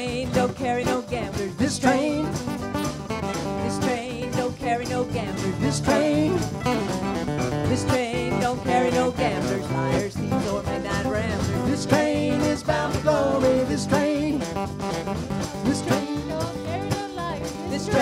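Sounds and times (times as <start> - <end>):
live band playing upbeat tune: 0.0 - 18.0.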